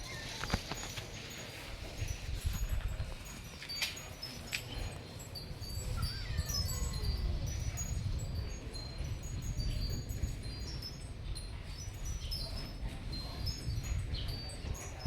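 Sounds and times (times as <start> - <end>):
wind chimes tinkling: 0.0 - 15.0.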